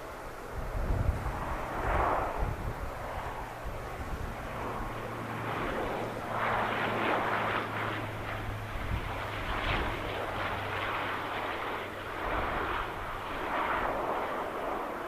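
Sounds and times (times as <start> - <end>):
airliner engine rushing: 0.0 - 15.0
wind buffeting microphone: 0.0 - 15.0.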